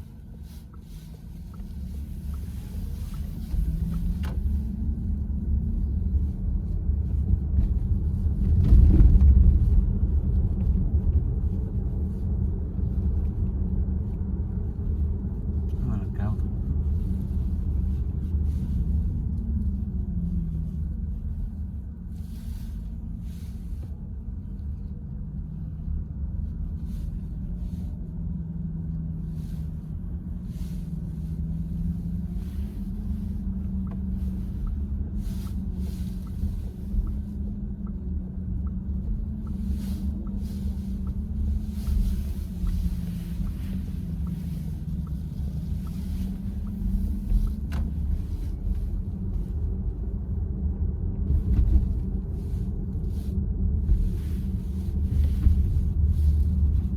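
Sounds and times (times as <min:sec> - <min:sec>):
car road and tyre noise: 0:00.0 - 0:56.9.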